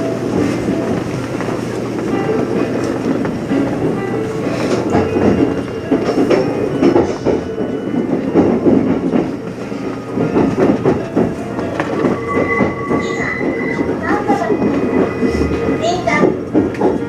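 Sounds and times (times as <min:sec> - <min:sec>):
train interior rumble: 0:00.0 - 0:17.0
steady high tone: 0:02.2 - 0:16.3.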